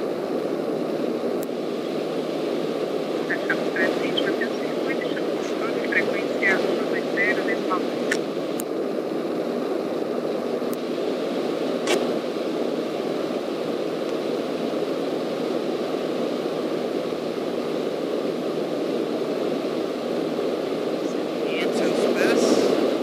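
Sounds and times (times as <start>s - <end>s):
light aircraft cockpit drone: 0.0s - 23.0s.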